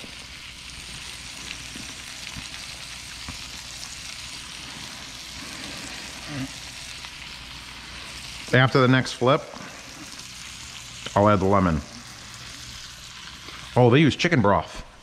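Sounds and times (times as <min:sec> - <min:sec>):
chicken sizzling in a pan: 0:00.0 - 0:14.7.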